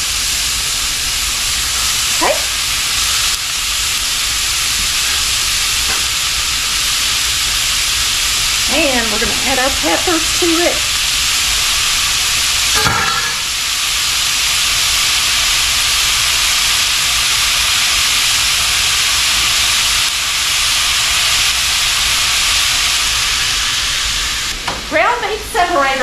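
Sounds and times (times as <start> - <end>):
meat sizzling in a skillet: 0.0 - 26.0.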